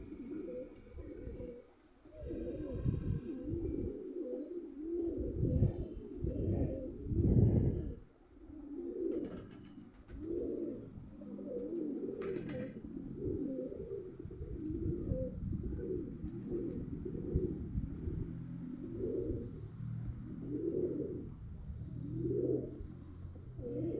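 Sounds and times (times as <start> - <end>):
pigeons cooing: 0.0 - 23.9.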